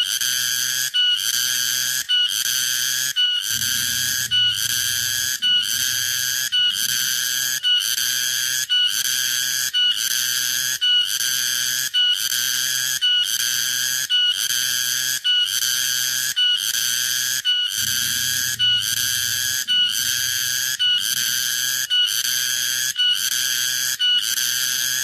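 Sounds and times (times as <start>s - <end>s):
cicada whistling buzz: 0.0s - 25.0s.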